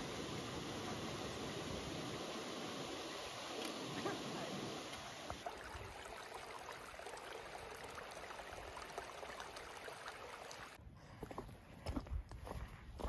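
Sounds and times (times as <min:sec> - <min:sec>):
water rushing: 0:00.0 - 0:10.8.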